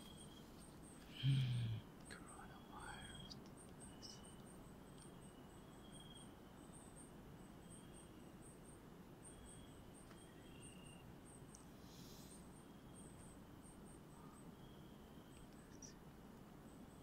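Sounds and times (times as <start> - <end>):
insect chirping in pulses: 0.0 - 17.0.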